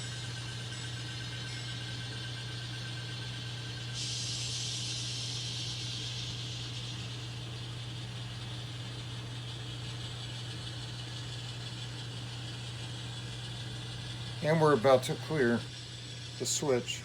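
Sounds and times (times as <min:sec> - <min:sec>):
hiss: 0:00.0 - 0:17.0
model locomotive engine drone: 0:00.0 - 0:17.0.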